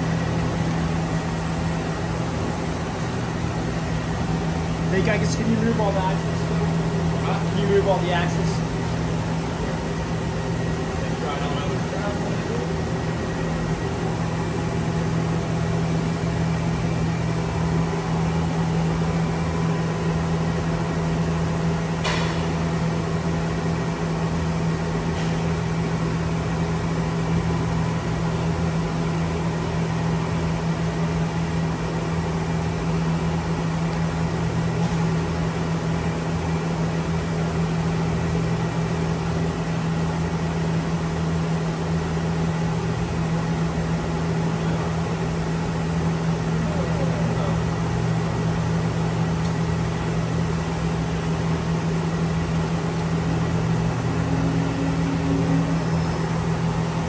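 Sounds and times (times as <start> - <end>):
grinder mechanical hum: 0.0 - 57.0.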